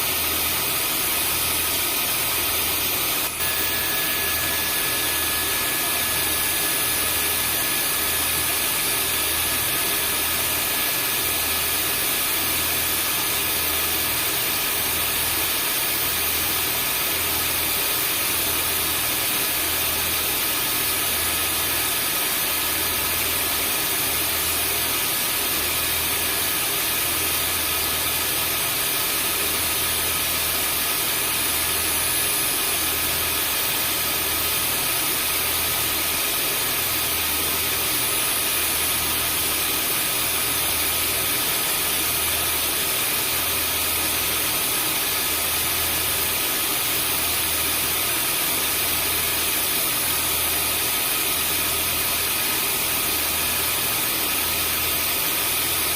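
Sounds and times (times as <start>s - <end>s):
vacuum cleaner motor running: 0.0s - 55.9s.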